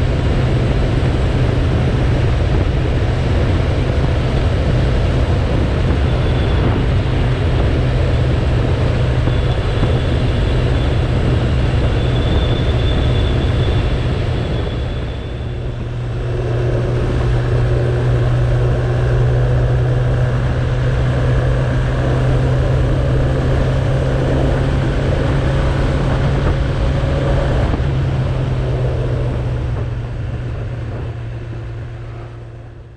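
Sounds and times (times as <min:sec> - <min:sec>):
motorcycle engine running: 0:00.0 - 0:32.9
wind and road noise: 0:00.0 - 0:32.9.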